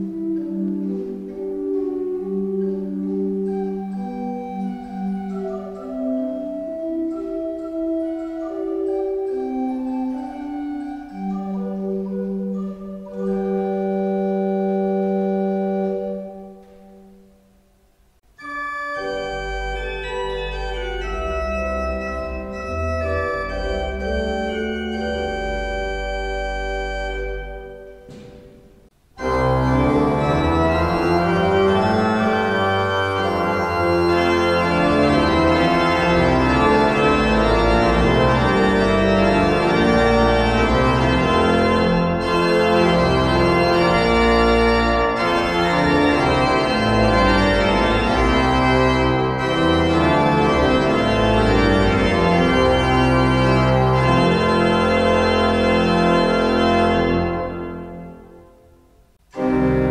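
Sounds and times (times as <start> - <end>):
pipe organ playing: 0.0 - 17.3, 18.4 - 59.9.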